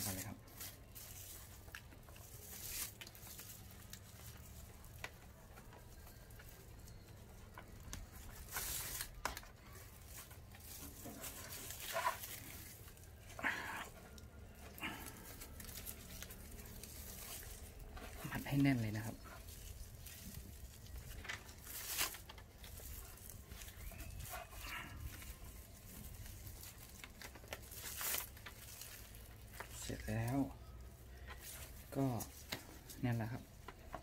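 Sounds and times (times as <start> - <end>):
rope rustling and scraping: 0.0 - 34.0.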